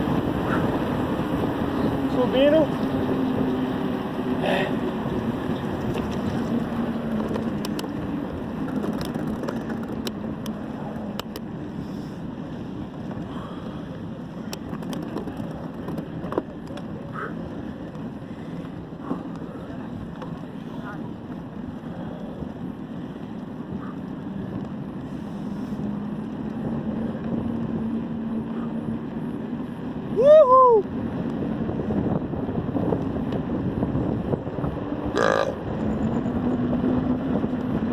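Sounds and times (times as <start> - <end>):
wind rush on microphone: 0.0 - 37.9.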